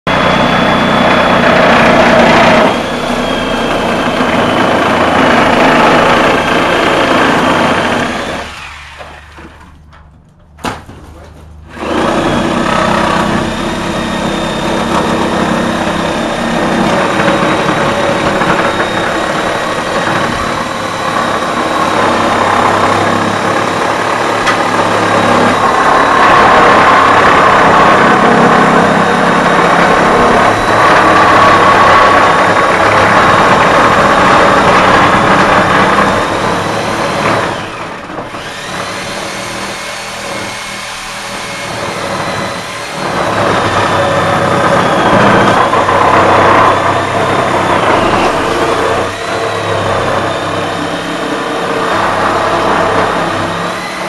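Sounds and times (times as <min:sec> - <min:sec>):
demolition machine motor: 0:00.1 - 0:54.0.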